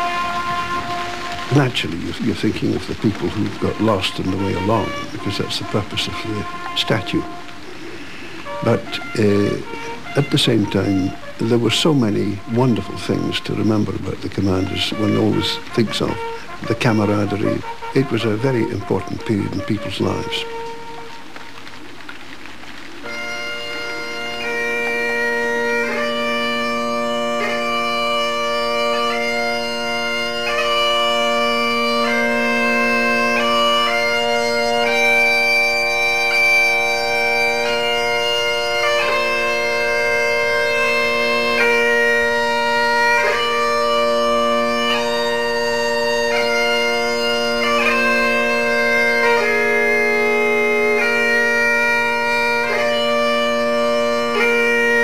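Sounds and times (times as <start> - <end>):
bagpipes playing slow tune: 0.0 - 55.0.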